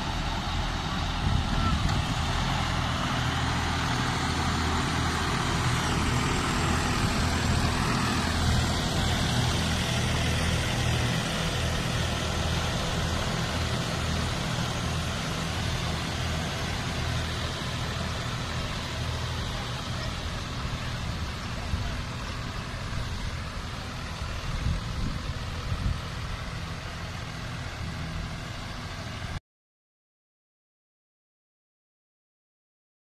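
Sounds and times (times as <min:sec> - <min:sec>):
tractor diesel engines: 0:00.0 - 0:29.4.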